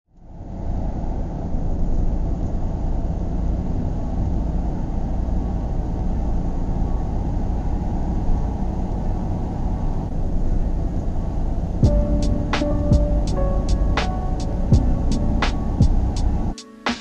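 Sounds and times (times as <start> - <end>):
road rumble: 0.2 - 16.5.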